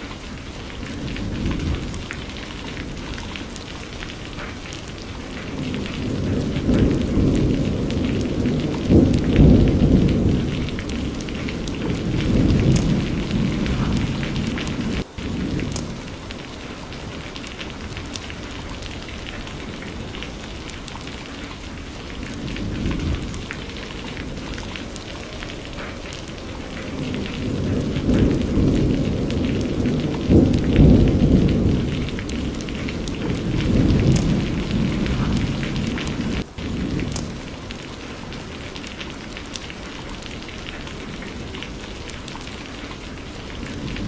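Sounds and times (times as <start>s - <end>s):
low thunder rumble: 0.0s - 44.0s
steady rain falling: 0.0s - 44.0s.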